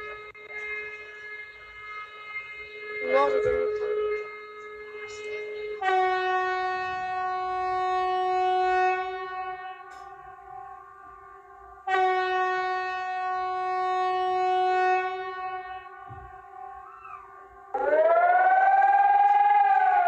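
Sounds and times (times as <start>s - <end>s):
buzzy alarm horn: 0.0s - 20.0s.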